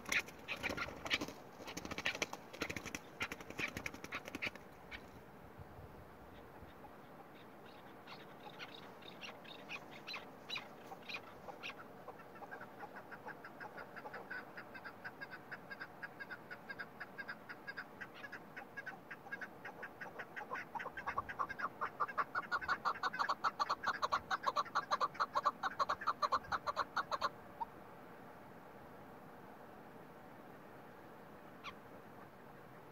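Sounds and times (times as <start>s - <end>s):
partridge clucking calls: 0.0s - 5.2s, 6.3s - 27.7s, 31.6s - 32.3s.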